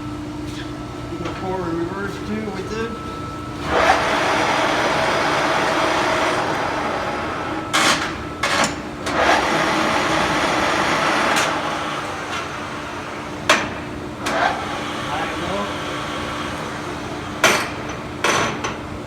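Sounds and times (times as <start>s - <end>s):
low motor hum: 0.0s - 17.4s
lathe spindle whirring: 0.8s - 18.2s.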